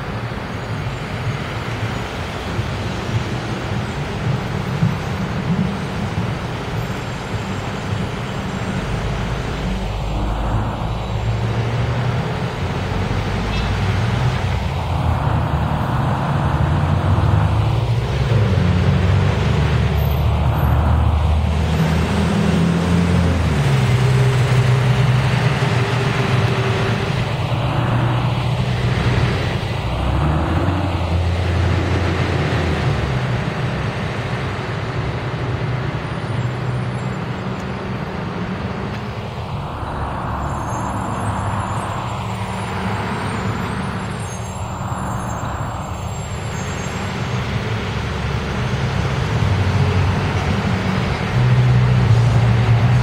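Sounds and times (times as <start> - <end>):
car traffic passing: 0.0 - 53.0
diesel bus engine droning: 0.0 - 53.0.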